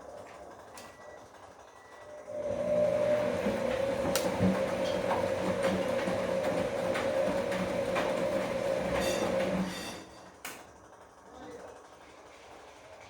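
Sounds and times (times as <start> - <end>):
washing machine motor hum: 1.3 - 13.0.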